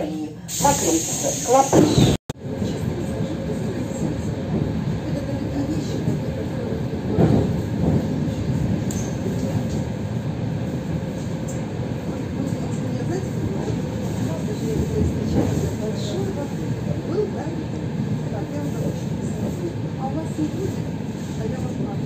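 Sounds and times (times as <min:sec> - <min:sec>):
train wheels rumbling: 0:00.5 - 0:22.0.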